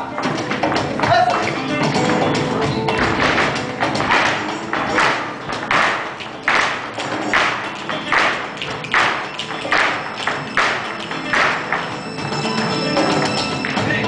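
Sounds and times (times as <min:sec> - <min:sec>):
flamenco music: 0:00.0 - 0:14.0
sharp percussive beat: 0:00.0 - 0:14.0.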